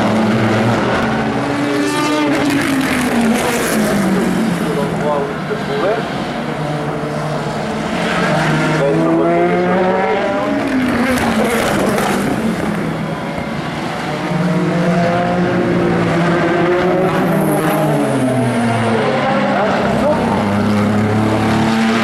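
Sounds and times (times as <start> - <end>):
race cars passing: 0.0 - 22.0.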